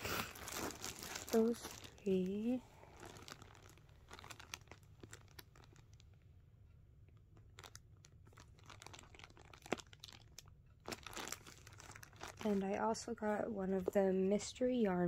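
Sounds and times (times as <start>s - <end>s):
plastic packaging crinkling: 0.0s - 6.3s, 7.1s - 14.0s.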